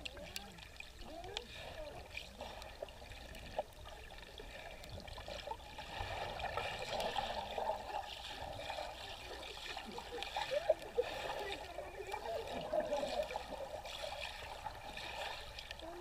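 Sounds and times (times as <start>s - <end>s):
air bubbles gurgling underwater: 0.0s - 16.0s.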